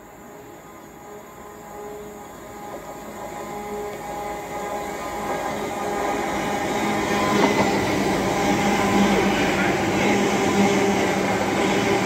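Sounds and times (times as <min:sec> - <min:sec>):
diesel train engine hum: 0:00.0 - 0:12.0
wheel and rail noise: 0:00.1 - 0:12.0.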